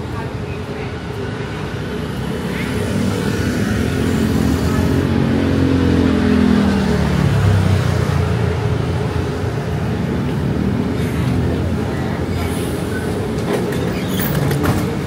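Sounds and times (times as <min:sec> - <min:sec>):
bus engine running: 0:00.0 - 0:15.0
road traffic noise: 0:00.0 - 0:15.0.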